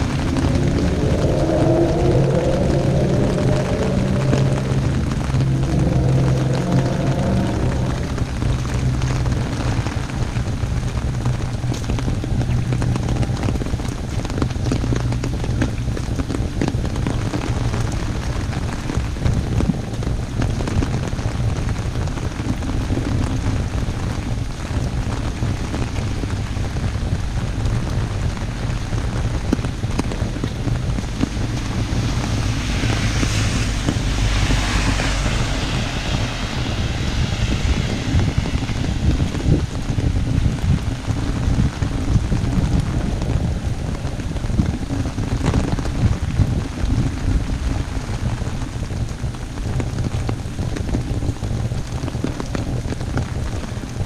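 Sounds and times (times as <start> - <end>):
heavy rain on an umbrella: 0.0 - 54.0
wind rumble on microphone: 0.0 - 54.0.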